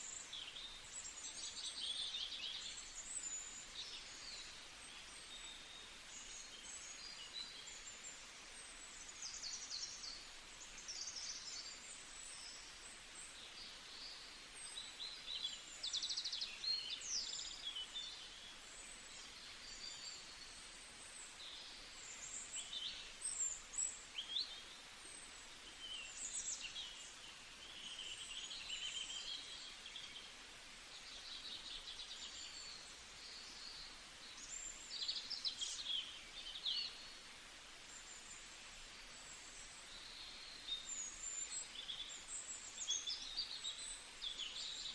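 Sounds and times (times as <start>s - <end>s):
faint steady hiss: 0.0s - 44.9s
small birds singing: 0.0s - 44.9s.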